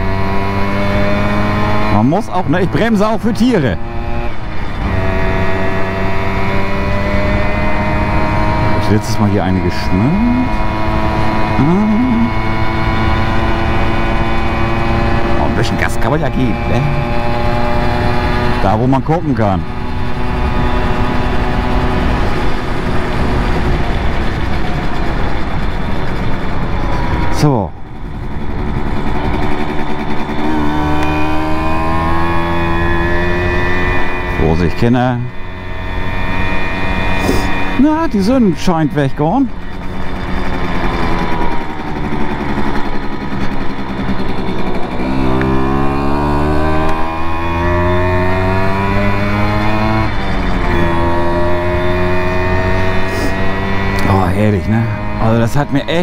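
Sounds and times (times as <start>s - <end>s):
moped engine running: 0.0s - 56.0s.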